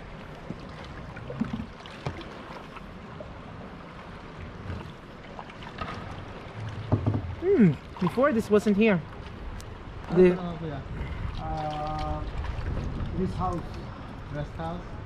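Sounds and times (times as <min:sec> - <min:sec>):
paddle splashes and drips: 0:00.0 - 0:10.2, 0:10.9 - 0:14.7.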